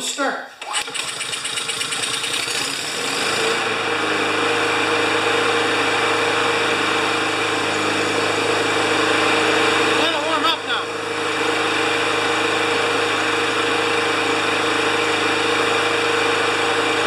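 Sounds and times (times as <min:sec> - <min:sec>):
push mower engine running: 0:00.6 - 0:17.0.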